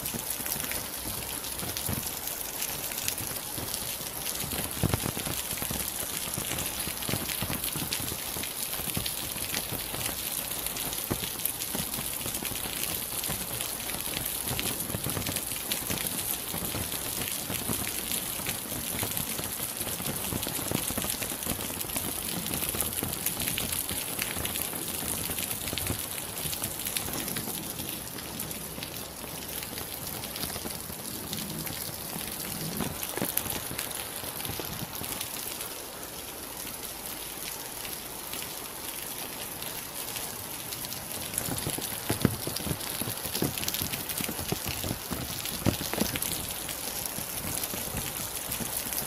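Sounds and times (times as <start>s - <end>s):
rain falling: 0.0s - 49.0s
raindrops hitting close by: 0.0s - 49.0s.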